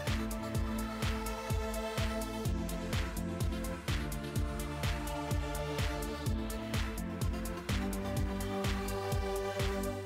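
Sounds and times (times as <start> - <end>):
kick drum thumps: 0.0 - 10.0.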